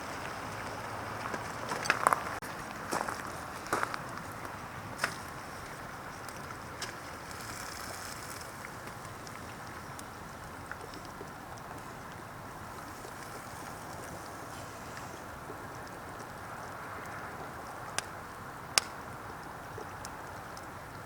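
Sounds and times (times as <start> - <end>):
campfire hissing: 0.0 - 21.0
fire pops and crackles: 0.0 - 21.0.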